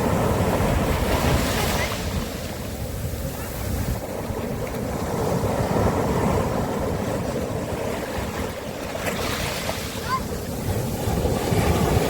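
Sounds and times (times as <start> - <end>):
sea waves washing onto beach: 0.0 - 12.0
wind on microphone: 0.0 - 12.0.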